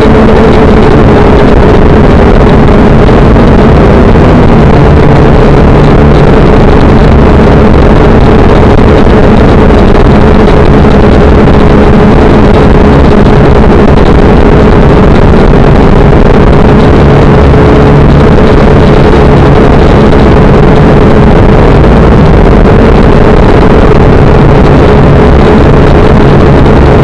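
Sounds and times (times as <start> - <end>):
drone motors buzzing: 0.0 - 27.0.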